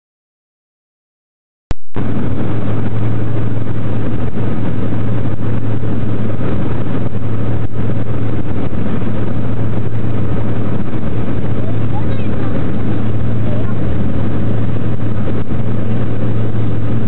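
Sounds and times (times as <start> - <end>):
light aircraft engine droning: 2.0 - 17.0.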